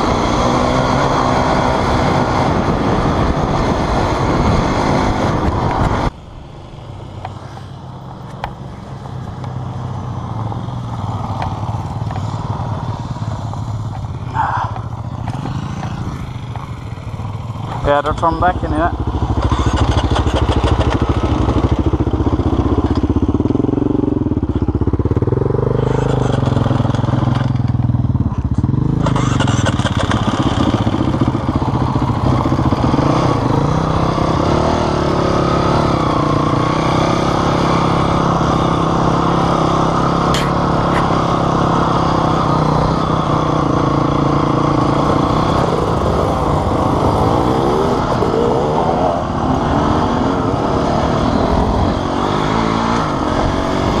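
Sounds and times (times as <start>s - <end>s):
dirt bike engine revving: 0.0s - 6.1s, 15.1s - 27.4s, 28.6s - 54.0s.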